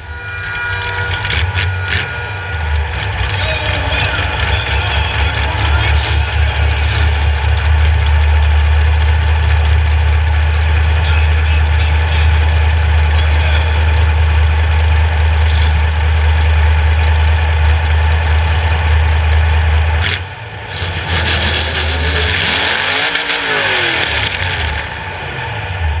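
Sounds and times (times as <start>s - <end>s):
car engine rumbling: 0.0s - 26.0s
engine revving: 0.0s - 26.0s.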